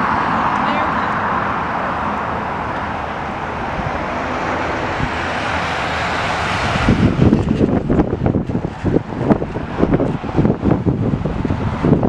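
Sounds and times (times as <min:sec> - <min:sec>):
airliner engines roaring: 0:00.0 - 0:12.0
wind gusts buffeting microphone: 0:00.0 - 0:12.0.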